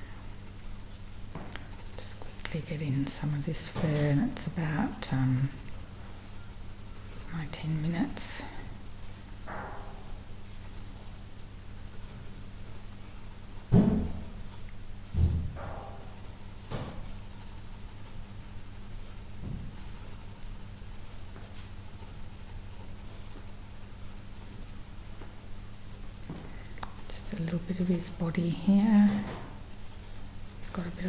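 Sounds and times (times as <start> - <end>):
pencil scratching on paper: 0.1 - 1.0, 1.7 - 14.6, 16.0 - 26.0, 27.0 - 31.0.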